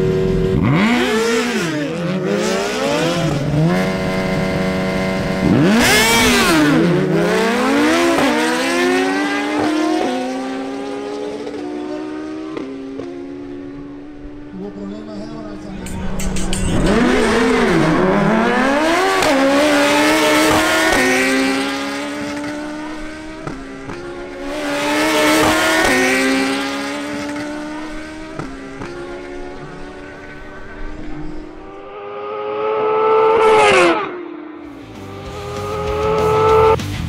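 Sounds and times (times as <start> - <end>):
motorcycle passing close: 0.0 - 36.8
motorcycle engines at full throttle: 0.0 - 37.0.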